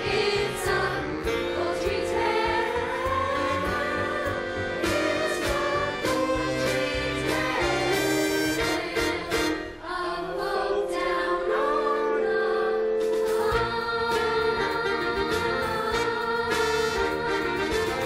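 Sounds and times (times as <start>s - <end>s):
ensemble singing: 0.0s - 18.0s
instrumental accompaniment: 0.0s - 18.0s.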